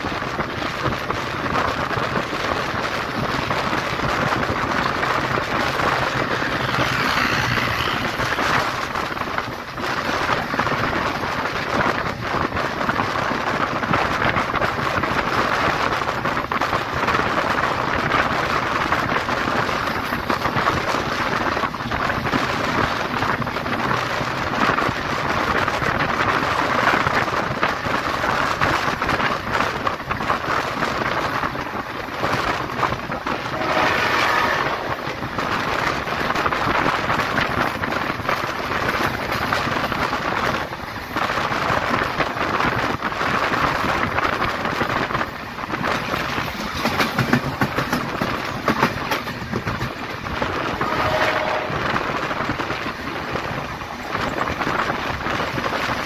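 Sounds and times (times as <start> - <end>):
train wheels rumbling on rails: 0.0 - 56.0
wind buffeting microphone: 0.0 - 56.0.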